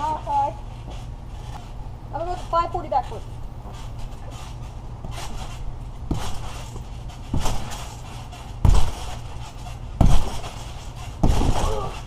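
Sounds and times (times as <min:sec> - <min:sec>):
thudding trampoline landings: 0:00.7 - 0:12.0.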